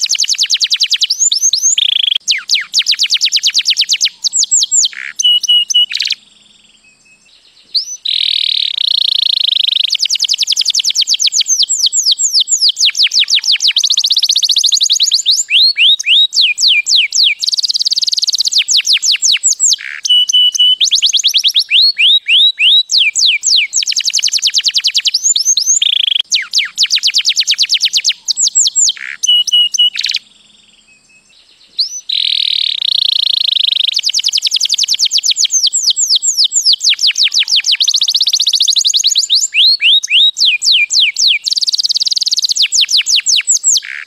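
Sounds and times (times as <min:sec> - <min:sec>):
canary singing: 0:00.0 - 0:44.0.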